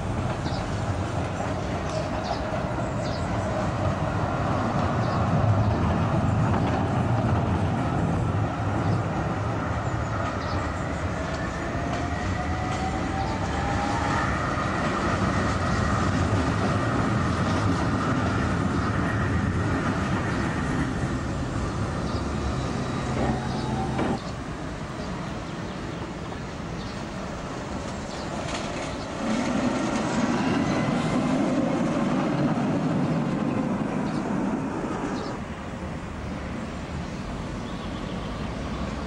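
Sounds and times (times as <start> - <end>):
tram wheels rumbling on rails: 0.0 - 39.0.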